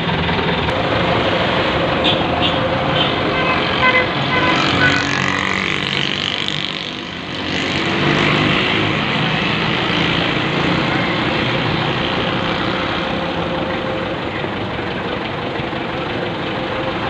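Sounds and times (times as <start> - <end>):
street traffic: 0.0 - 17.0
tractor diesel engine running: 0.0 - 17.0.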